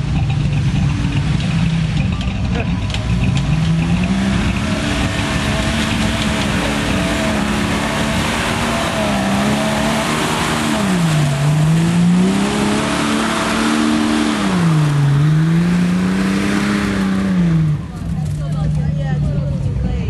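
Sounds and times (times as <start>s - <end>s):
tires spinning in mud: 0.0s - 19.4s
truck engine revving: 0.0s - 19.9s.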